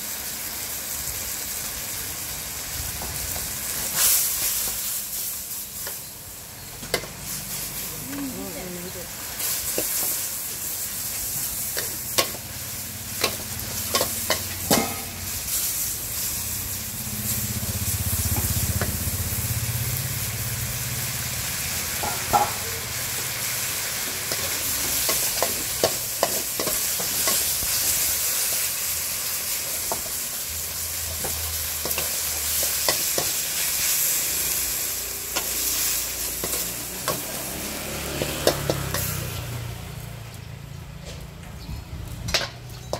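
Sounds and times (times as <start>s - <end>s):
noodles sizzling in a wok: 0.0s - 40.7s.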